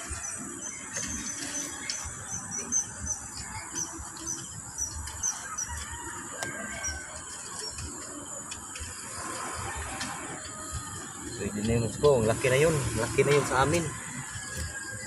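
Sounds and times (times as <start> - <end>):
birds chirping: 0.0 - 15.0
high-pitched background hum: 0.0 - 15.0.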